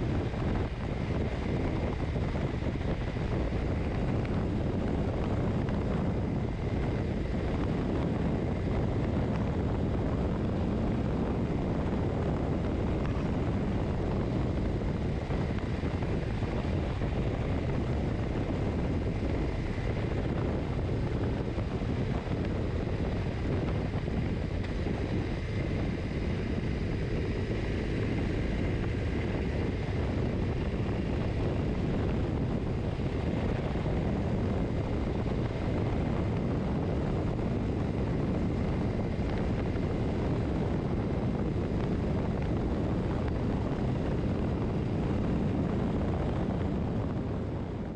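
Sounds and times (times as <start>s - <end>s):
motorcycle engine drone: 0.0s - 47.9s
wind rushing past microphone: 0.0s - 47.9s.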